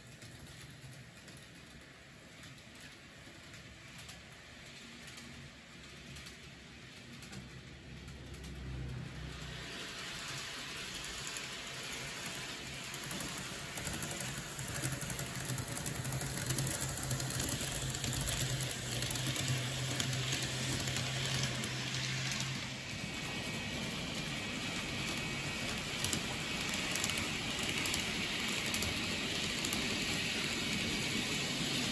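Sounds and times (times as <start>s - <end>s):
model train wheels clicking: 0.0s - 31.9s.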